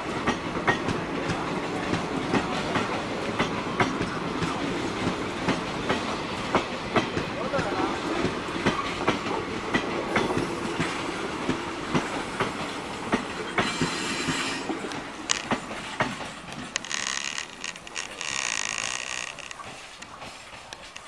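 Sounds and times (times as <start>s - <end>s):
train rumble: 0.0s - 21.0s
train wheels clacking over rail joints: 0.0s - 21.0s.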